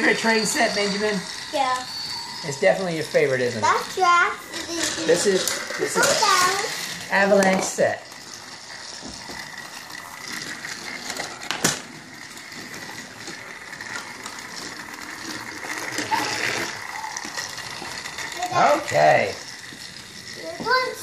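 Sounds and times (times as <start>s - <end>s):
toy train motor whirring: 0.0s - 21.0s.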